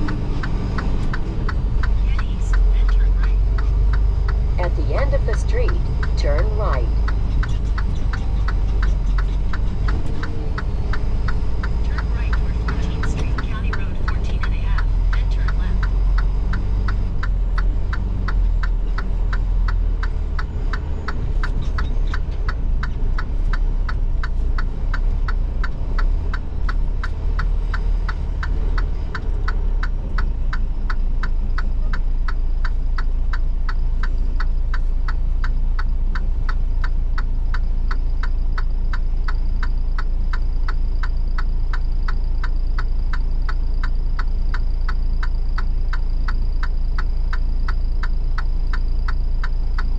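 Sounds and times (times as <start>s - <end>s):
diesel engine rumble: 0.0s - 49.9s
turn signal ticking: 0.0s - 49.9s.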